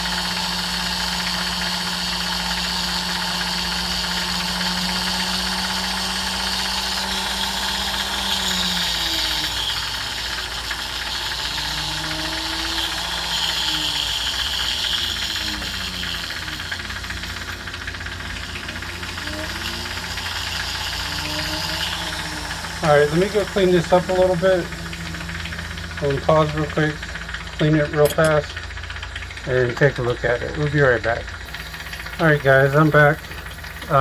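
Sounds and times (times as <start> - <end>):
rotary tool motor whirring: 0.0 - 34.0.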